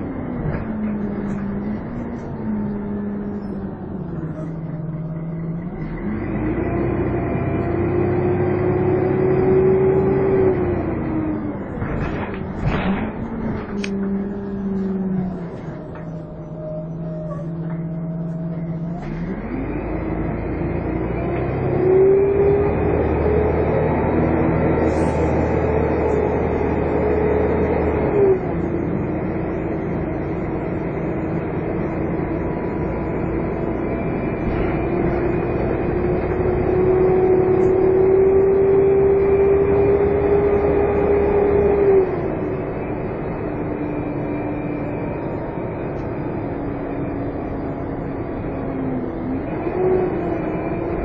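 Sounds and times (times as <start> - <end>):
bus engine accelerating with whine: 0.0 - 51.0.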